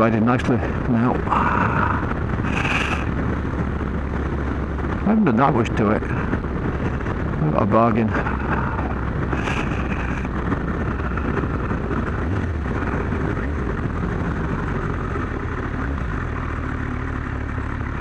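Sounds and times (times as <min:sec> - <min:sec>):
wind on microphone: 0:00.0 - 0:16.0
motorcycle engine running: 0:00.0 - 0:18.0.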